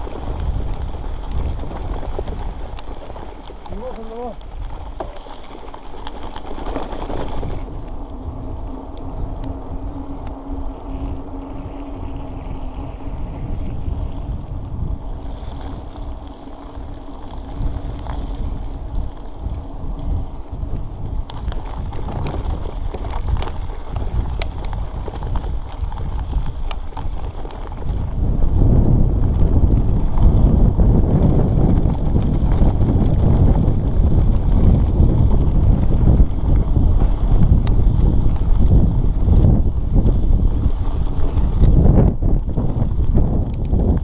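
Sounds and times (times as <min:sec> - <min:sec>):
bicycle riding over gravel: 0:00.0 - 0:44.0
gravel ticks: 0:00.0 - 0:44.0
wind buffeting microphone: 0:00.0 - 0:44.0
steady hum: 0:05.2 - 0:43.4.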